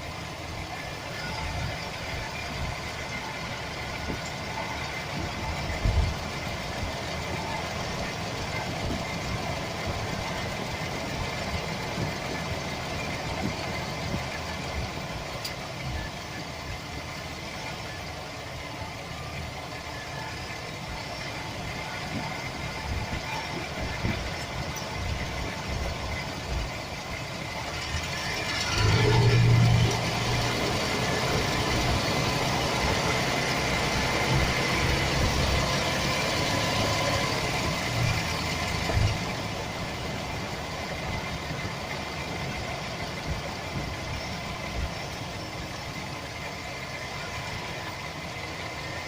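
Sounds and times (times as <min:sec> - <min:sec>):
van engine idling: 0:00.0 - 0:49.0.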